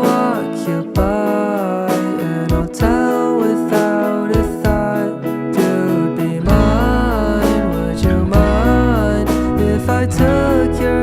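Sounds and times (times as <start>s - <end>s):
song with guitar and beat: 0.0s - 11.0s.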